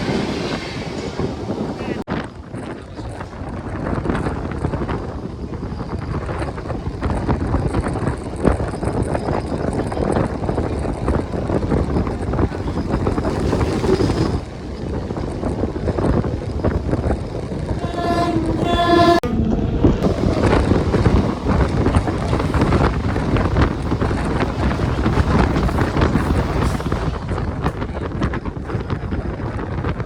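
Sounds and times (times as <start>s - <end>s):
train rattling rumble: 0.0s - 30.0s
wind buffeting microphone: 0.0s - 30.0s.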